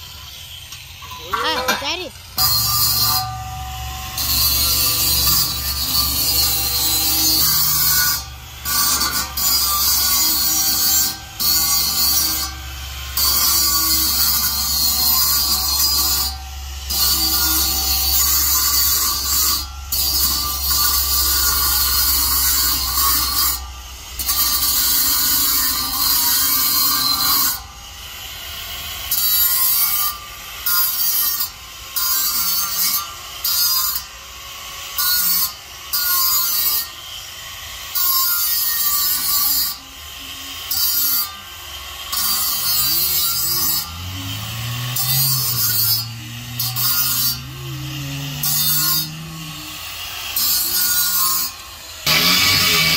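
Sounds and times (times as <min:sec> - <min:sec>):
angle grinder cutting metal: 0:00.0 - 0:52.9.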